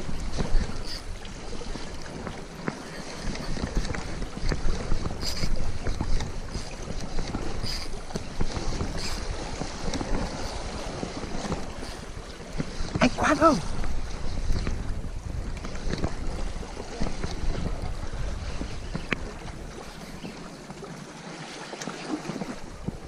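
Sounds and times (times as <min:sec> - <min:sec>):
wind buffeting microphone: 0:00.0 - 0:21.3, 0:22.1 - 0:23.0
sea waves: 0:00.0 - 0:23.0.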